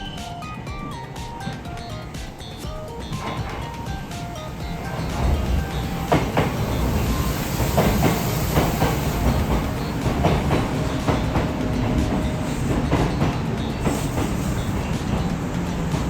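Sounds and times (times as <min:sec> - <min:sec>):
electric train rumbling past: 0:00.0 - 0:16.0
wheels clicking over rail joints: 0:00.0 - 0:16.0.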